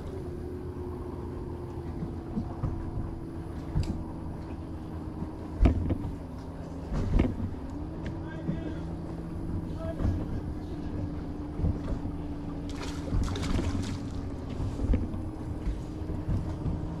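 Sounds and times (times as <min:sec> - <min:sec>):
electric trolling motor humming: 0:00.0 - 0:17.0
low rumble: 0:00.0 - 0:17.0.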